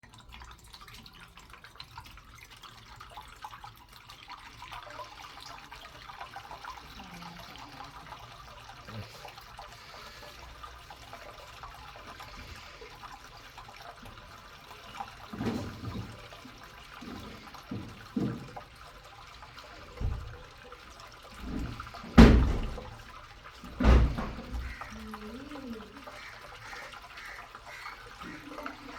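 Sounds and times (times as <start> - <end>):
faint water trickling: 0.0 - 28.9.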